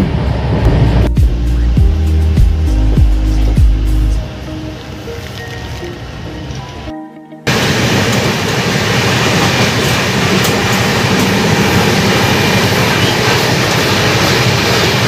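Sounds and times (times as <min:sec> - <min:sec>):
train rumbling and rattling: 0:00.0 - 0:06.9, 0:07.5 - 0:15.0.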